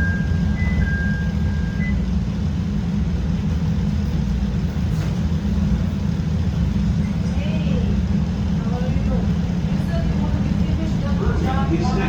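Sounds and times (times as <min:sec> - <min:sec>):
train wheels and motors rumbling: 0:00.0 - 0:12.0.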